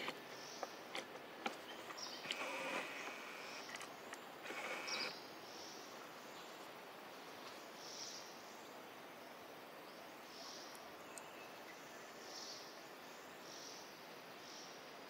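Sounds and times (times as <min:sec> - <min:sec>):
low forest hiss: 0:00.0 - 0:15.0.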